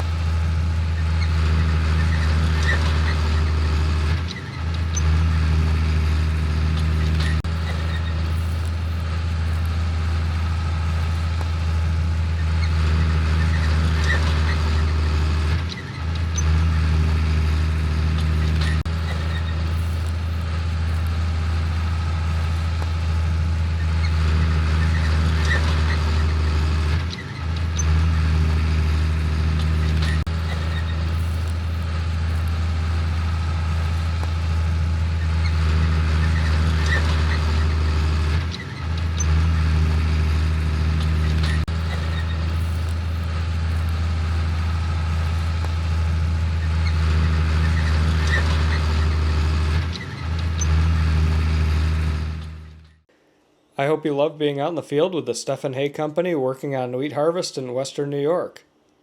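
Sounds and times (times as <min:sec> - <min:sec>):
diesel engine drone: 0:00.0 - 0:53.1.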